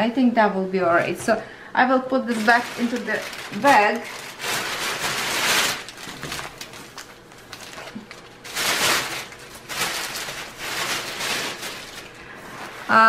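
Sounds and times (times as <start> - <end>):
plastic packaging rustling: 2.3 - 13.0.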